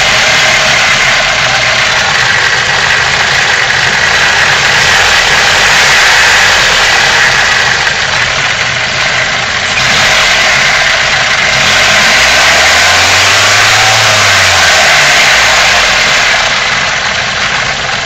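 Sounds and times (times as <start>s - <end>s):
car engine idling roughly: 0.0s - 18.0s.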